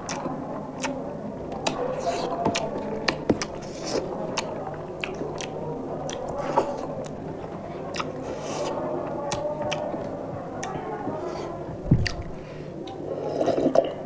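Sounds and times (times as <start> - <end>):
people chewing and eating: 0.0 - 14.0.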